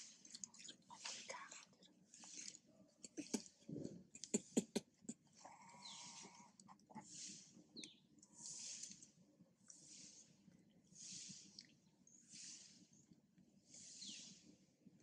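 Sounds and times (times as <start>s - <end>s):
soft breathy puffs: 0.0s - 14.8s.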